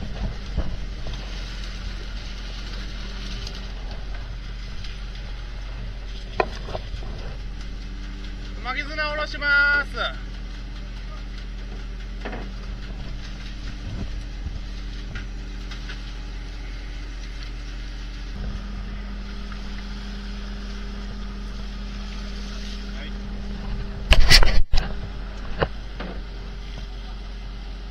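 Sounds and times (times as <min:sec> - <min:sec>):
boat engine running: 0:00.0 - 0:27.9.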